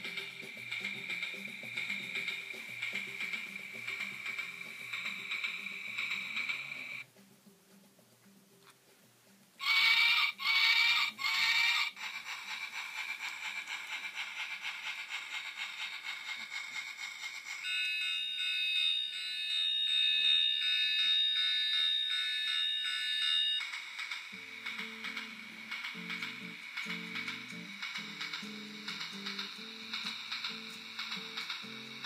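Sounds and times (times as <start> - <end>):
train chugging: 0.0 - 7.1, 9.6 - 32.0.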